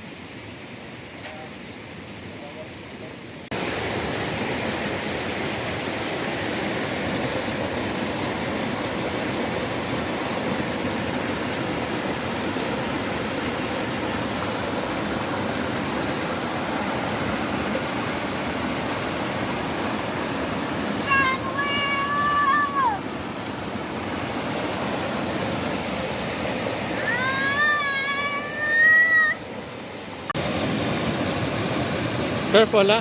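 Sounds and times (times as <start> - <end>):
waterfall roaring: 2.3 - 33.0.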